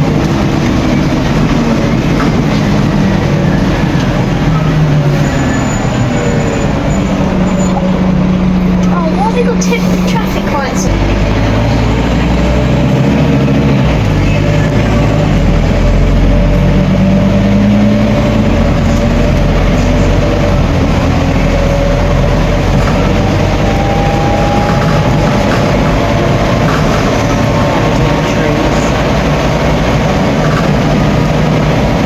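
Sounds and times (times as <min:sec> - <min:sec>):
bus diesel engine running: 0:00.0 - 0:32.0.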